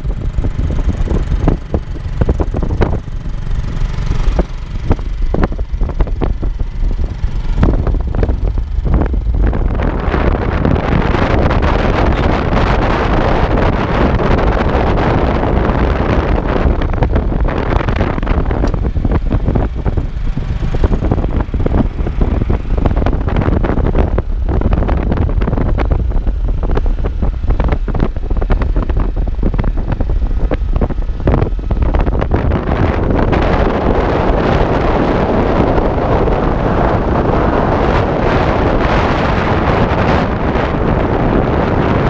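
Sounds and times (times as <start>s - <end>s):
motorcycle engine running: 0.0s - 42.0s
wind buffeting microphone: 0.0s - 42.0s.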